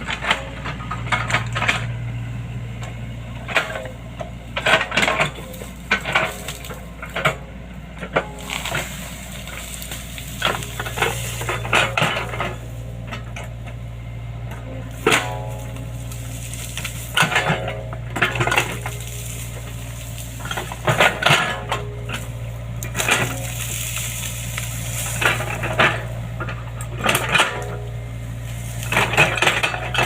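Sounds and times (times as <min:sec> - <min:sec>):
diesel engine running: 0:00.0 - 0:30.0
metal clanks and knocks: 0:00.0 - 0:30.0.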